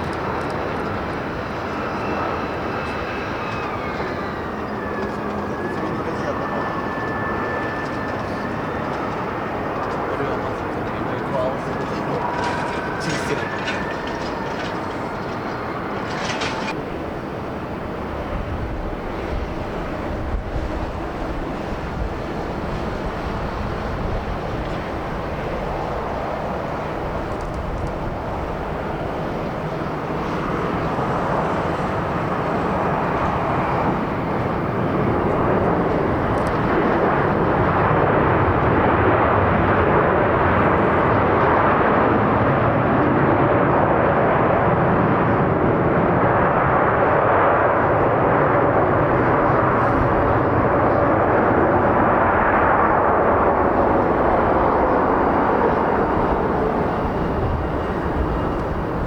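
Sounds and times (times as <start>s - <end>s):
jet airliner approaching: 0.0s - 59.0s.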